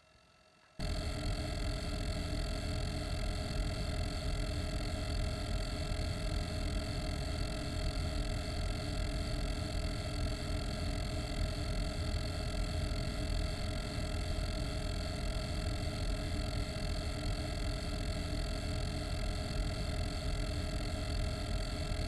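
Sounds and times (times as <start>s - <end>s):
cooling fan running: 0.8s - 22.0s.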